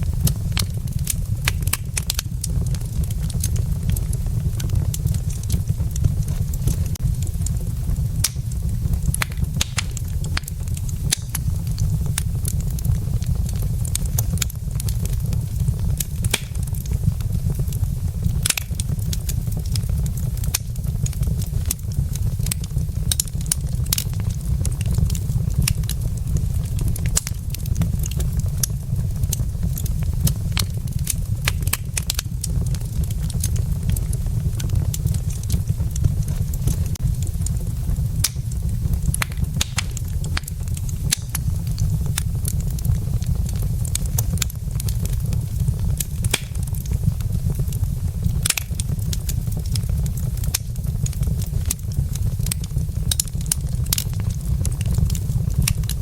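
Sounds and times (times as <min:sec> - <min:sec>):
flames rumbling: 0:00.0 - 0:56.0
logs crackling and popping: 0:00.0 - 0:56.0.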